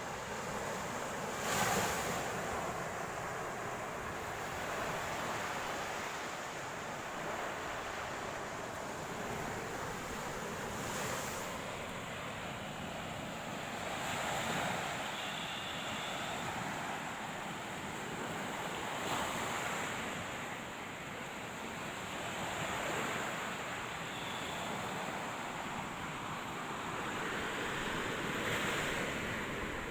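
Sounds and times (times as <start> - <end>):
waves breaking on shore: 0.0 - 29.9
wind: 0.0 - 29.9.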